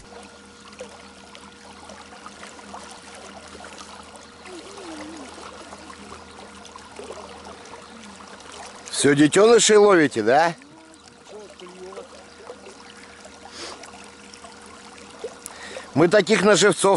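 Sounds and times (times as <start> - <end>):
faint steady hum: 0.0 - 16.9
water trickling and splashing: 0.0 - 16.9.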